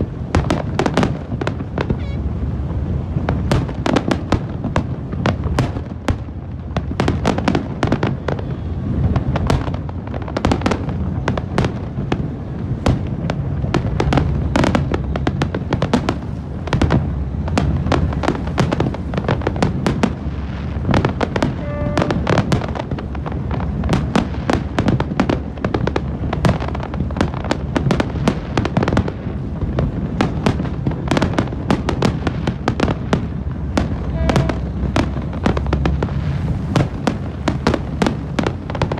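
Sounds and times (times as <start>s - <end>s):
fireworks bangs and crackles: 0.0s - 38.9s
low rumble of booms: 0.0s - 38.9s.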